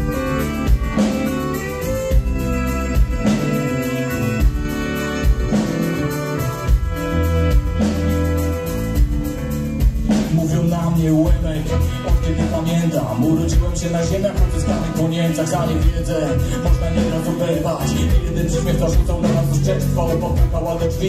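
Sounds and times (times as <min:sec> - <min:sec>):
bass line: 0:00.0 - 0:21.0
drum kit heavy beat: 0:00.0 - 0:21.0
held melodic lines: 0:00.0 - 0:21.0.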